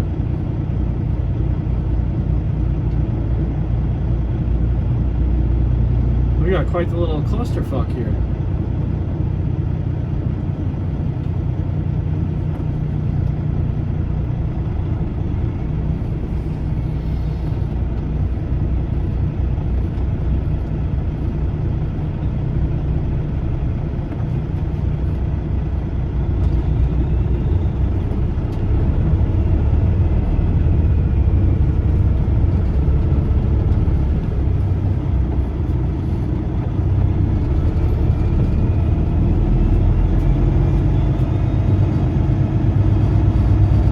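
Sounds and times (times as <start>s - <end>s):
diesel truck engine rumbling: 0.0s - 43.9s.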